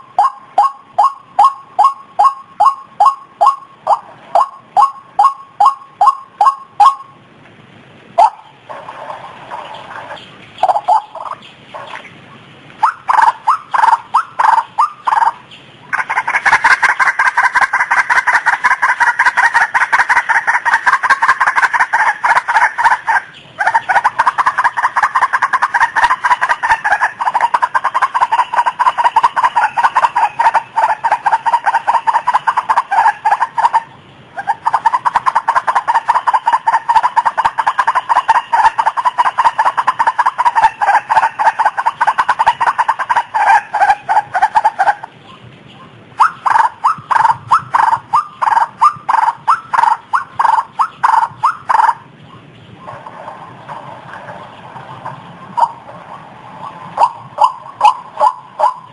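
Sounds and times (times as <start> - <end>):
waterhen calling: 0.0 - 7.3, 8.1 - 58.9.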